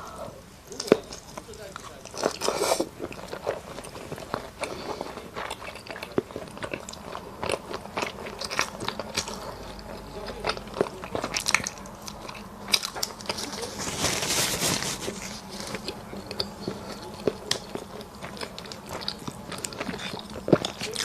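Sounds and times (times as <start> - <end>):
person biting and chewing: 0.7 - 21.0.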